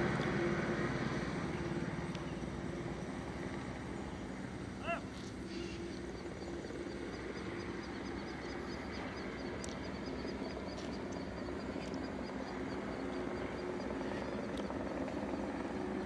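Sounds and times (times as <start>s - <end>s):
distant helicopter droning: 0.0s - 16.0s.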